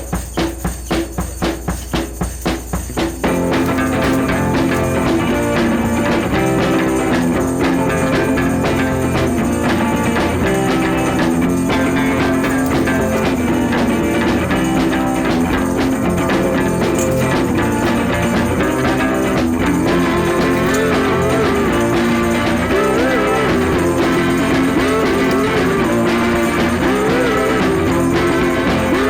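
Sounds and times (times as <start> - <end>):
rock music with guitar and drums: 0.0 - 29.0.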